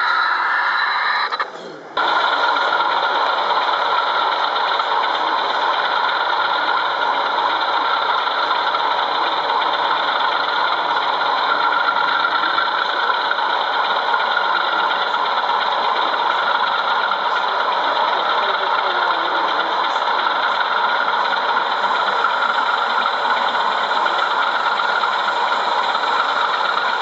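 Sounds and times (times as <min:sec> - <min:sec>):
model locomotive diesel engine: 0:00.0 - 0:27.0.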